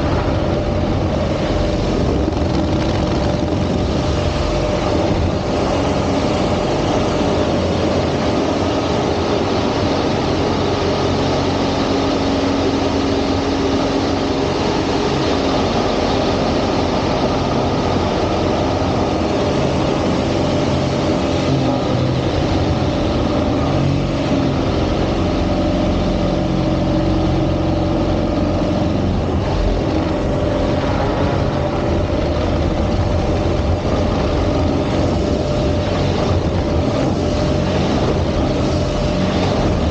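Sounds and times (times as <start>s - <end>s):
propeller airplane engine running: 0.0s - 39.9s.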